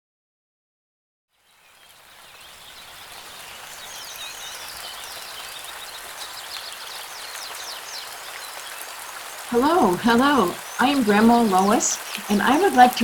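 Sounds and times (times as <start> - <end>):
steady rain falling: 1.3 - 13.0
birds chirping: 1.4 - 13.0.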